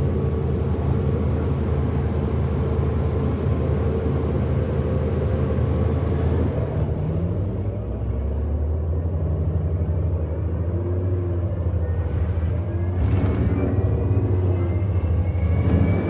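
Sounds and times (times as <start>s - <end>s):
bus drivetrain and road rumble: 0.0s - 16.0s.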